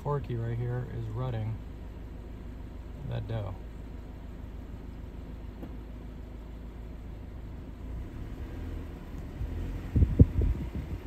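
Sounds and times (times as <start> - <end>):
low rumble inside a car: 0.0 - 11.0.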